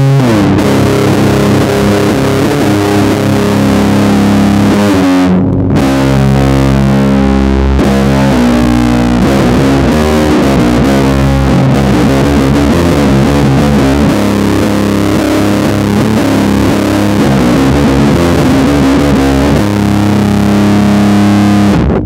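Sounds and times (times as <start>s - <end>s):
distorted metal music recording: 0.0s - 22.0s
electric bass metal riff: 0.0s - 22.0s.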